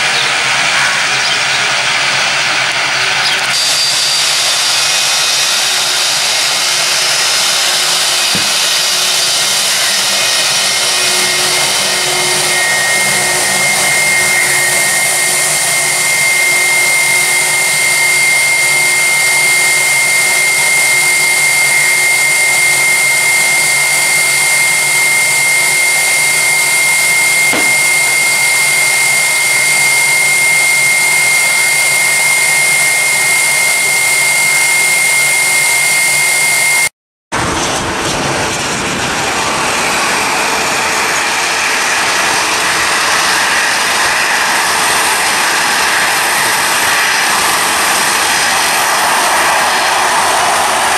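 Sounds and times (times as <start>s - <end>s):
high steady engine whine: 0.0s - 50.9s
jet engines roaring: 0.0s - 50.9s.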